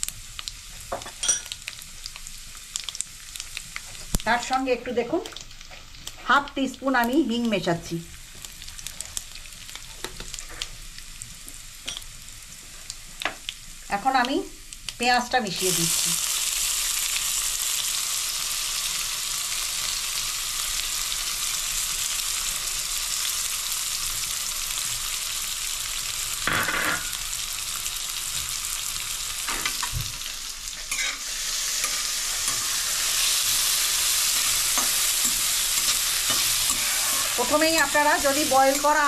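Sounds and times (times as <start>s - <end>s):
onion sizzling in hot fat: 0.0s - 39.0s.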